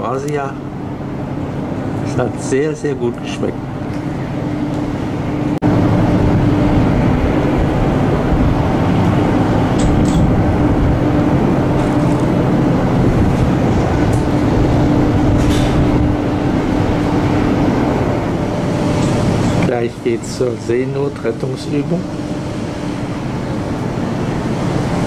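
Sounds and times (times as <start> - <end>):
ship machinery hum: 0.0 - 25.0.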